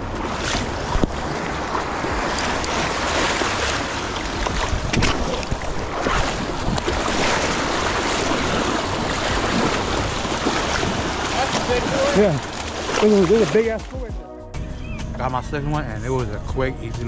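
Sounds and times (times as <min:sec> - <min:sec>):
wind buffeting microphone: 0:00.0 - 0:14.0
water splashing: 0:00.0 - 0:14.2.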